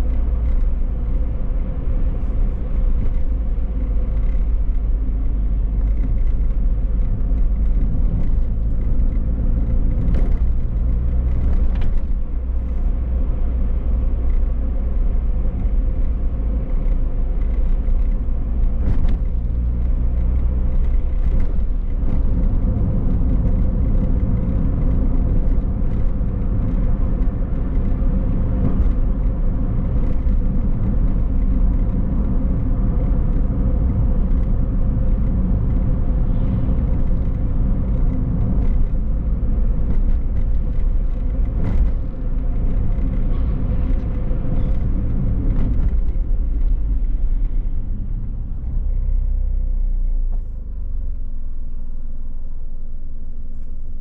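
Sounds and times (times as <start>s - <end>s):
car engine hum: 0.0s - 54.0s
road and tyre rumble: 0.0s - 54.0s.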